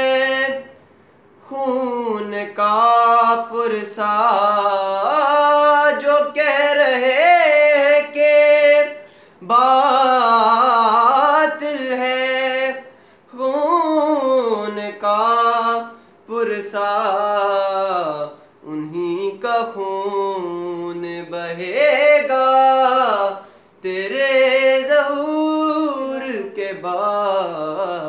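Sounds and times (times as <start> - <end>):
man singing unaccompanied: 0.0 - 28.0.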